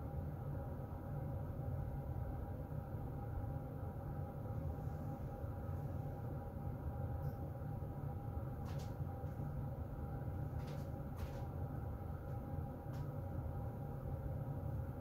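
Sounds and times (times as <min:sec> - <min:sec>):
faint hum: 0:00.0 - 0:15.0
heater vent blowing air: 0:00.0 - 0:15.0.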